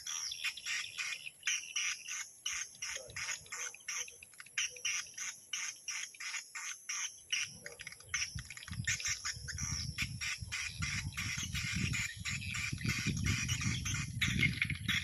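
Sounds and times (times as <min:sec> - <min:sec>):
bird chirps from speaker: 0:00.0 - 0:15.0.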